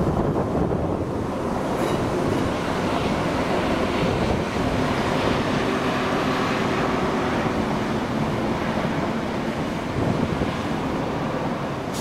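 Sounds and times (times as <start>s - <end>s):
train rumbling by: 0.0s - 12.0s.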